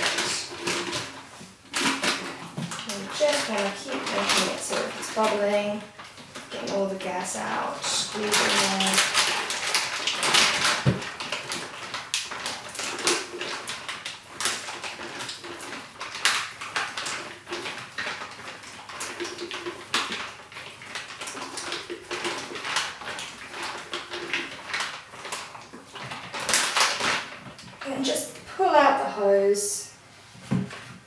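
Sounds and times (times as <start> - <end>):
plastic bag crinkling: 0.0 - 29.4.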